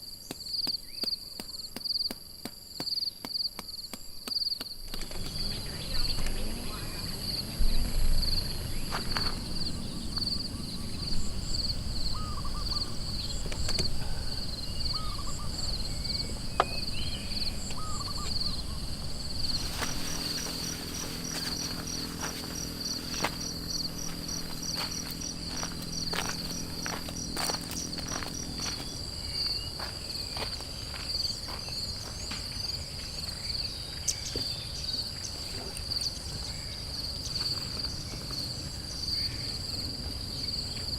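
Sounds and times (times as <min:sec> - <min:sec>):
insects trilling: 0:00.0 - 0:40.9
low steady hum: 0:04.0 - 0:40.9.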